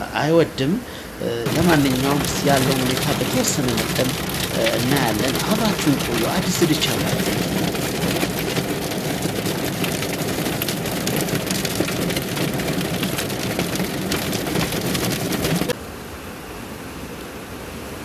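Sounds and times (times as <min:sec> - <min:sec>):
heavy rain pouring: 0:00.6 - 0:15.8.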